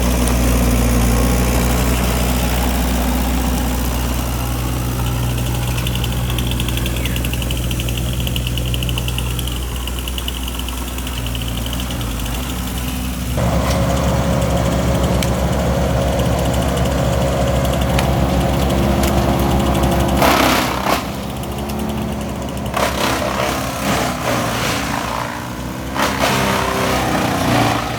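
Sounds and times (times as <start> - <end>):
heavy machinery engine idling: 0.0 - 27.9.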